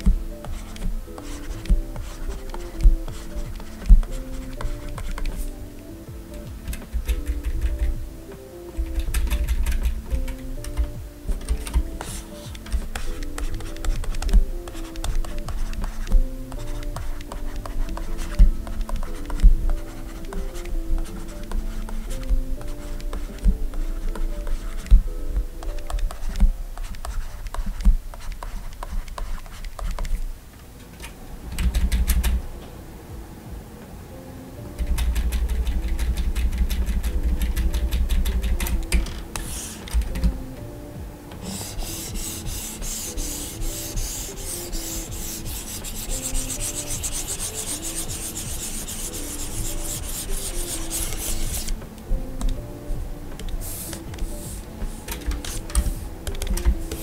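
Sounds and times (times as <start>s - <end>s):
stylus scratching and tapping on screen: 0.0s - 5.7s, 6.4s - 30.2s, 34.8s - 40.4s, 41.4s - 51.8s, 53.4s - 57.0s
soft background music: 0.0s - 57.0s.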